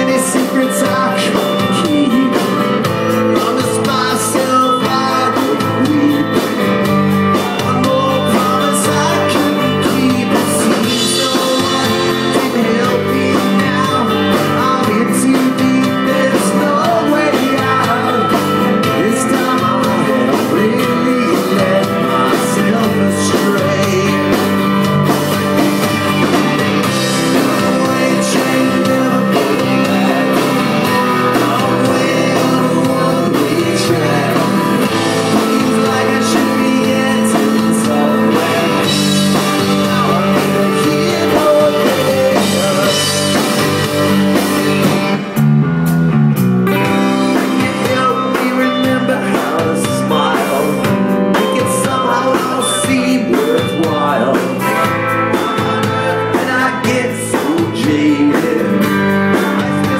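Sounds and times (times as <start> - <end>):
man singing: 0.0 - 44.1, 46.9 - 59.9
live rock band playing: 0.0 - 59.9.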